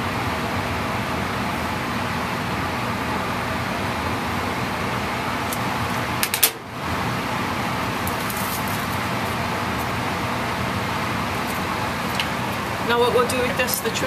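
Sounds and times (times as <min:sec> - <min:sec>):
cabinet blower humming: 0:00.0 - 0:14.0.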